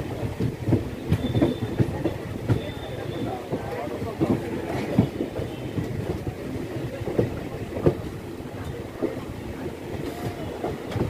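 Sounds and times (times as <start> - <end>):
train wheels rumbling on track: 0.0 - 11.0
wheels knocking on rail joints: 0.0 - 11.0.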